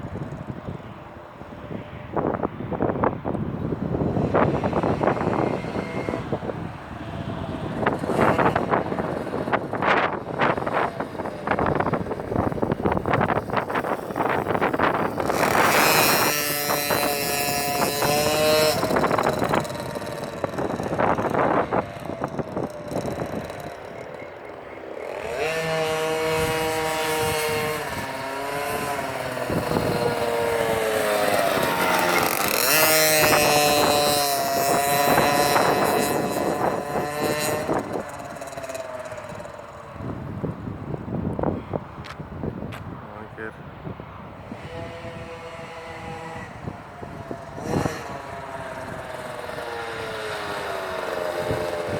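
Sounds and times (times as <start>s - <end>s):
minibike engine revving: 0.0s - 42.3s, 43.9s - 51.9s.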